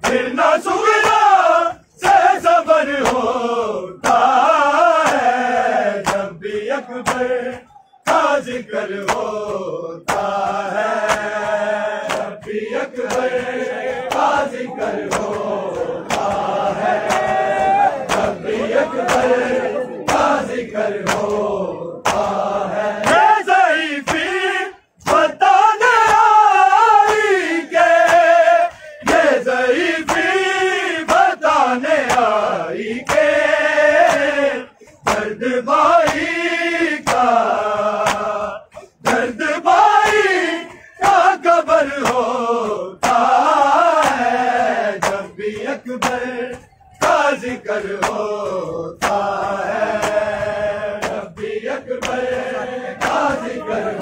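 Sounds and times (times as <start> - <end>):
hands slapping chests: 0.0 - 2.3, 2.9 - 3.4, 4.0 - 23.4, 24.0 - 54.0
men chanting in unison: 0.0 - 54.0.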